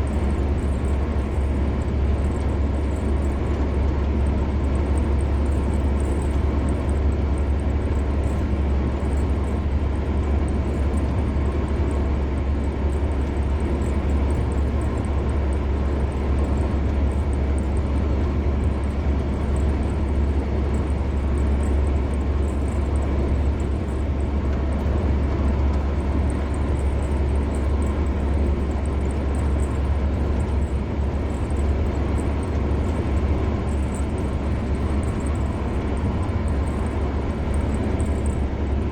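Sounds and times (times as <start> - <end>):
car driving on highway: 0.0 - 38.9.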